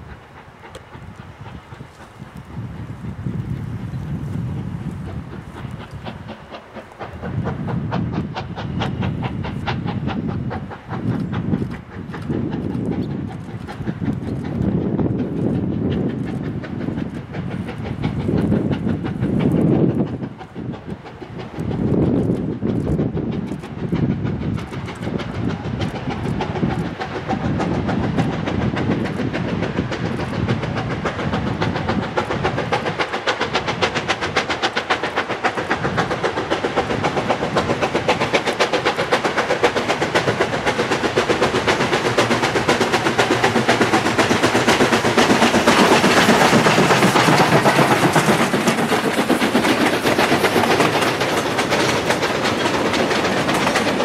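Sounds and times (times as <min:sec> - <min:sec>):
steam locomotive chuffing: 0:00.0 - 0:54.0
train wheels clickety-clack: 0:00.0 - 0:54.0.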